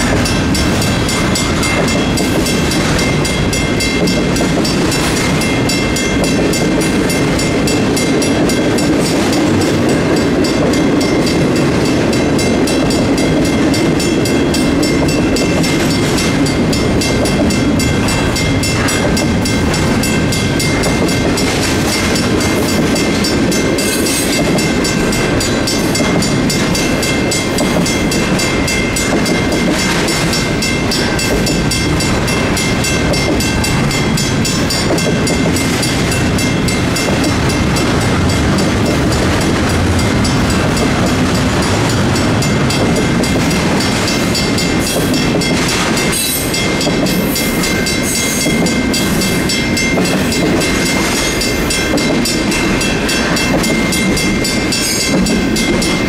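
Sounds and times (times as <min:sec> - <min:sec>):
crossing warning bells ringing: 0:00.0 - 0:56.0
train wheels clattering on rails: 0:00.0 - 0:56.0.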